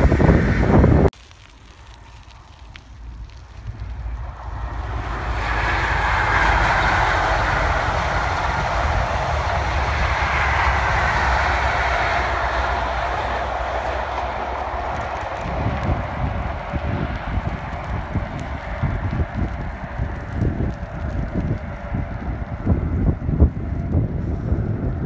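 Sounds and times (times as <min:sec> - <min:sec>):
train passing at speed: 0:00.0 - 0:01.1, 0:04.0 - 0:25.0
wheels rushing on rail: 0:00.0 - 0:25.0.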